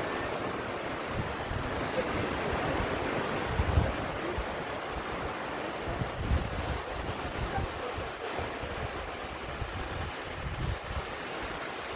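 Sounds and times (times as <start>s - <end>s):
surf washing onto beach: 0.0s - 11.9s
wind buffeting microphone: 0.0s - 11.9s.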